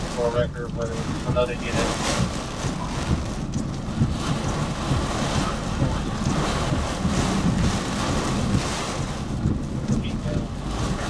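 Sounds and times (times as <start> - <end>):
gusting wind: 0.0 - 11.0
torrential rain: 0.0 - 11.0
wind rumble on microphone: 0.0 - 11.0.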